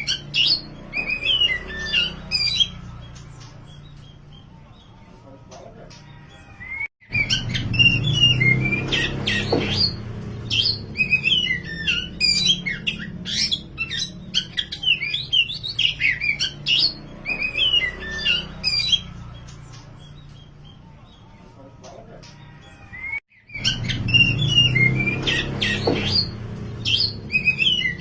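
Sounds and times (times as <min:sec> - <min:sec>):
songbird whistling and chattering: 0:00.0 - 0:04.4, 0:06.6 - 0:20.8, 0:23.0 - 0:28.0.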